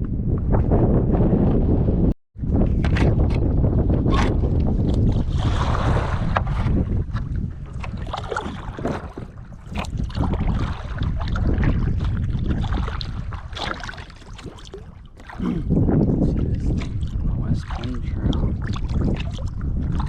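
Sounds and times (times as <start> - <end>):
wind buffeting microphone: 0.0 - 20.0
paddle splashing in water: 2.7 - 15.9, 16.7 - 20.0.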